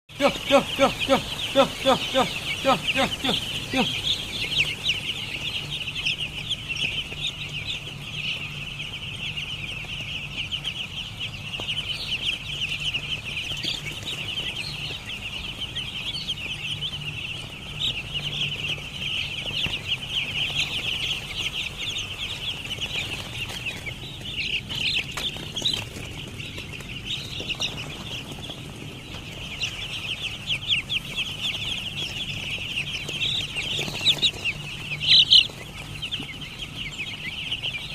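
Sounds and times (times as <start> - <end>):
chicks peeping: 0.1 - 37.9
steady low hum: 0.1 - 37.9.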